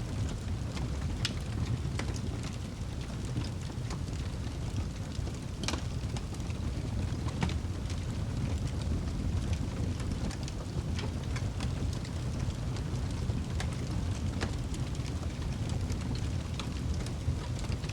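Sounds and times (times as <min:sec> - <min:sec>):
fire crackling and popping: 0:00.0 - 0:17.9
fire flames rumbling: 0:00.0 - 0:17.9.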